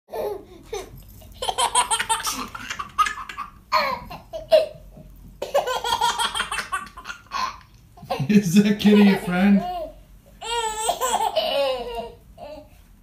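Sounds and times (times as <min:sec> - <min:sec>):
baby laughing: 0:00.1 - 0:04.8, 0:05.4 - 0:12.7.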